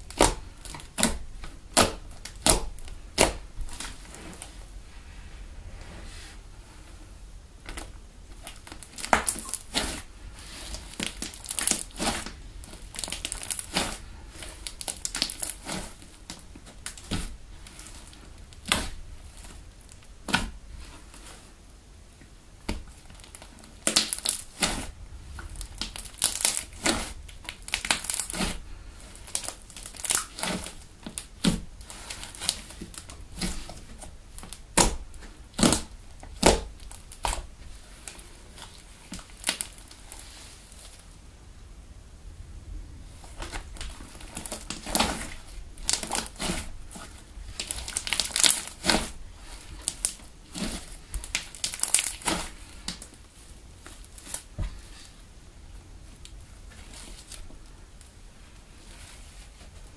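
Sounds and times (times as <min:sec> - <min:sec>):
foam slime crackling: 0:00.0 - 0:04.7, 0:07.6 - 0:21.6, 0:22.6 - 0:41.1, 0:43.0 - 0:59.9.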